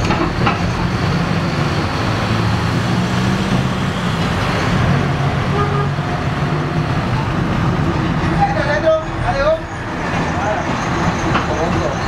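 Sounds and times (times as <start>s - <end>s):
bus engine drone: 0.0s - 12.0s
road and cabin noise: 0.0s - 12.0s.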